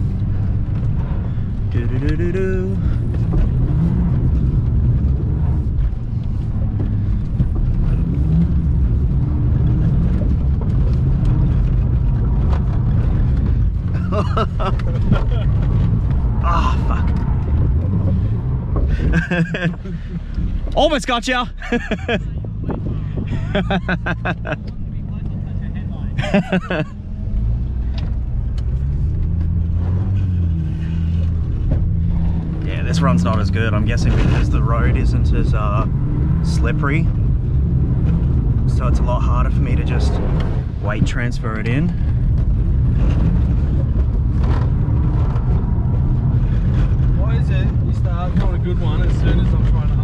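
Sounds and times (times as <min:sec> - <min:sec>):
car engine rumble: 0:00.0 - 0:50.0
road noise: 0:00.0 - 0:50.0.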